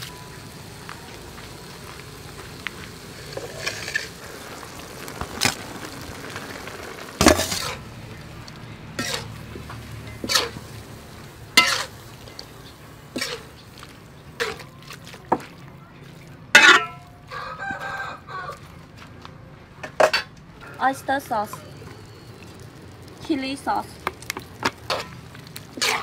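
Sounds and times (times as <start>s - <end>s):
food sizzling in a pan: 0.0s - 15.5s, 20.6s - 26.0s.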